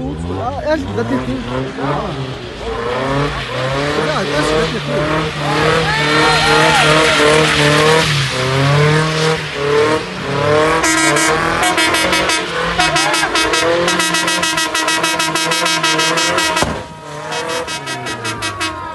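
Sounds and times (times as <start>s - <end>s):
light truck engine revving: 0.0s - 18.9s.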